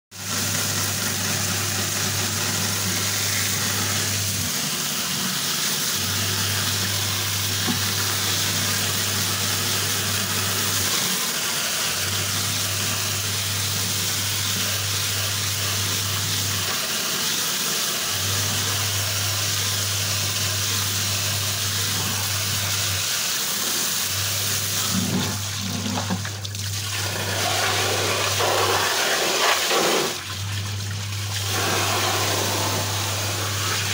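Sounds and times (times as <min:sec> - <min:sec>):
hose water spraying: 0:00.2 - 0:33.9.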